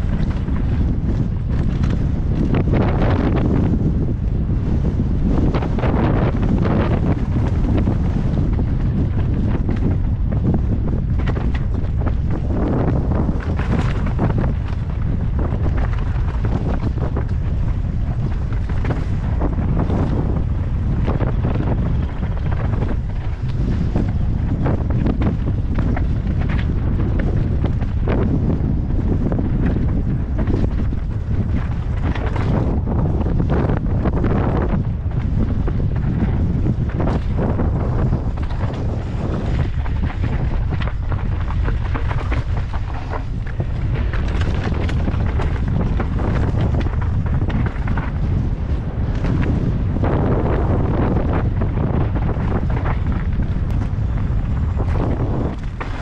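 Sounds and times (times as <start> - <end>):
bike clicks and rattles: 0.0 - 56.0
wind buffeting microphone: 0.0 - 56.0.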